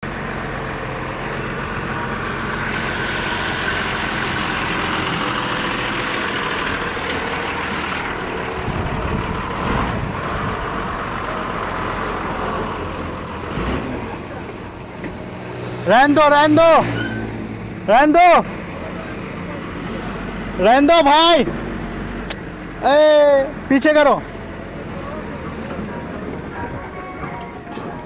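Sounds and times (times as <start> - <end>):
road traffic noise: 0.0 - 28.0
truck engine running: 0.0 - 28.0.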